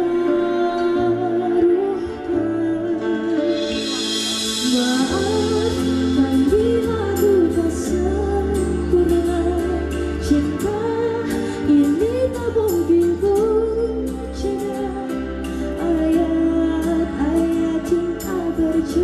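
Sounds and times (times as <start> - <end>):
low instrumental backing: 0.0 - 19.0
woman singing into a microphone: 0.0 - 19.0.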